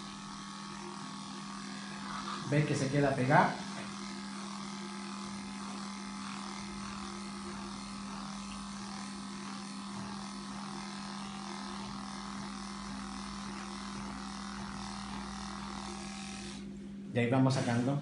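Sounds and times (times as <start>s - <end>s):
electric clipper buzzing: 0.0s - 17.0s.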